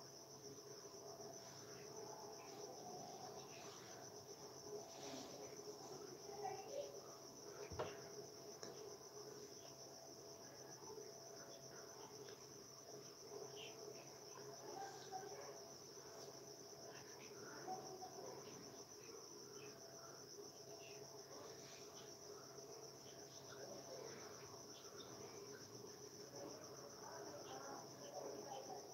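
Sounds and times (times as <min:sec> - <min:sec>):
insect trill: 0:00.0 - 0:28.9.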